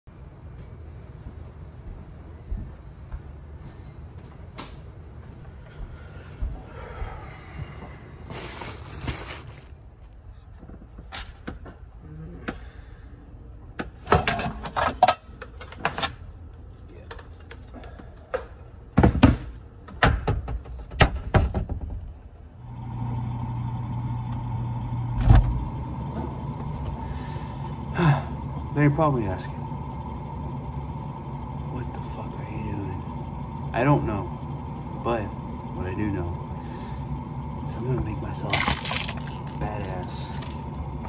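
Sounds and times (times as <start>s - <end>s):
steady appliance hum: 0.1s - 41.0s.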